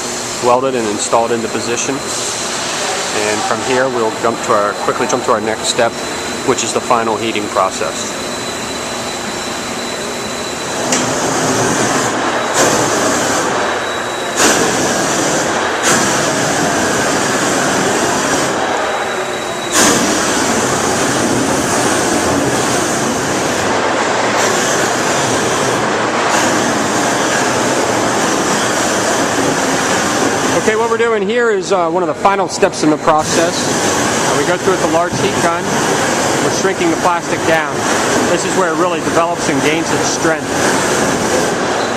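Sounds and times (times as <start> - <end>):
heat gun roaring: 0.0 - 31.2, 32.6 - 41.9.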